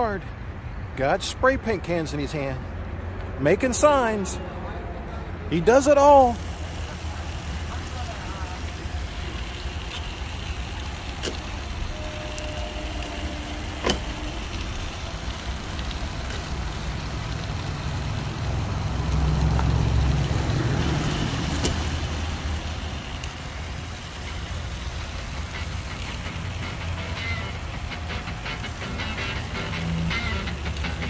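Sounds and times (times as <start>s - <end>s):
motorcycle engine rumble: 4.5s - 31.0s.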